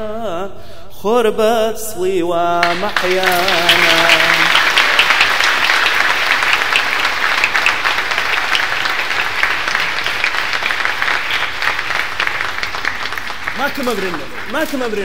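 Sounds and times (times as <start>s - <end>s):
congregation applauding: 2.6s - 15.0s.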